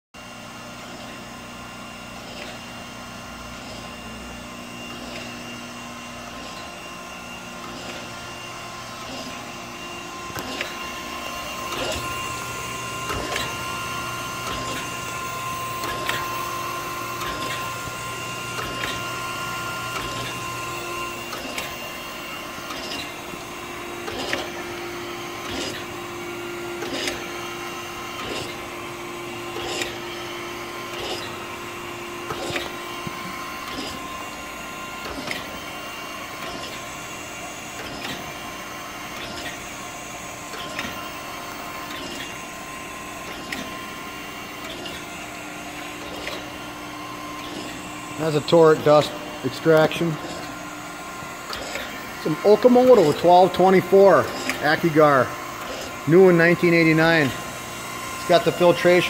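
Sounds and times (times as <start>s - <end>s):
grinder motor hum: 0.2s - 59.0s.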